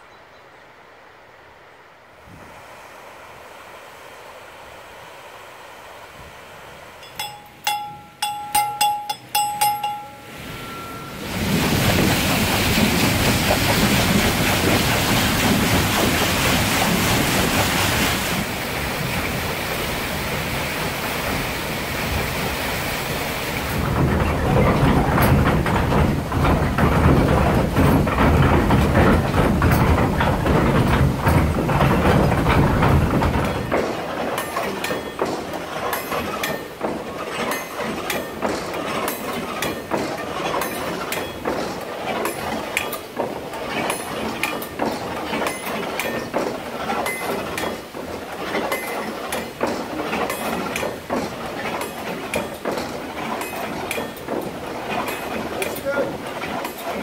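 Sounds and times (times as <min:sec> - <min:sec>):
water rushing through flume: 0:00.6 - 0:57.0
water wheel heavy rumble: 0:01.2 - 0:57.0
mill machinery clicking and knocking: 0:07.0 - 0:57.0.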